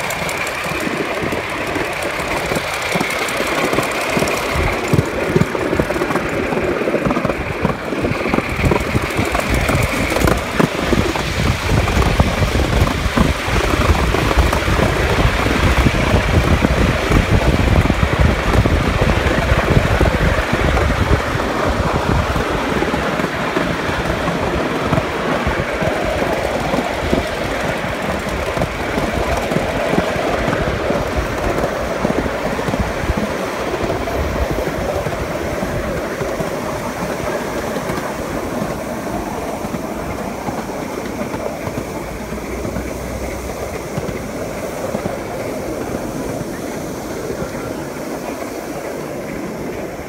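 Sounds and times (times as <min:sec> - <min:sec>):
miniature train wheels on rail: 0:00.0 - 0:50.0.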